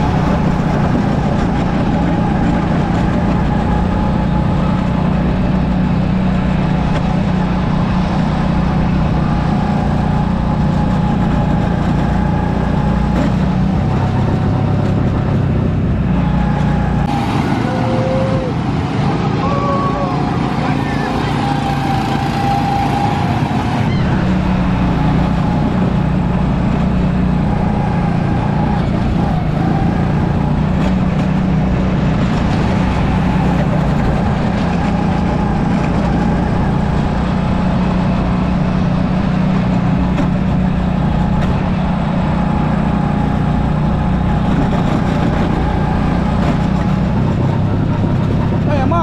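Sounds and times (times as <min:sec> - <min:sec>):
motor vehicle running: 0:00.0 - 0:49.0.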